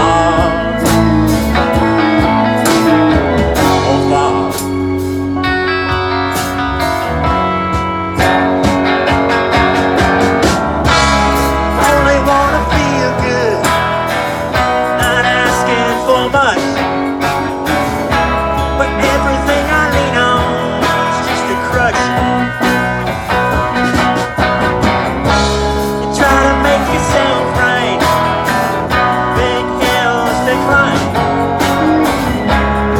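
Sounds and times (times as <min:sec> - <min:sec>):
bass guitar: 0:00.0 - 0:32.9
lead guitar with bent notes: 0:00.0 - 0:32.9
steady drum beat: 0:00.0 - 0:32.9.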